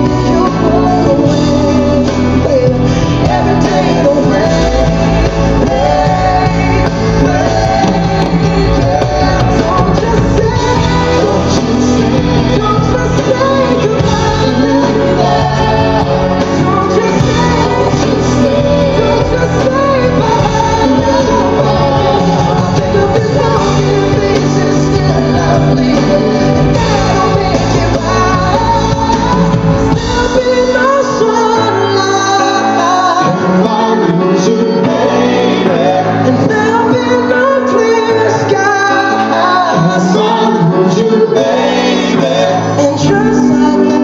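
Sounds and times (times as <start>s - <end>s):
live band music: 0.0s - 44.0s.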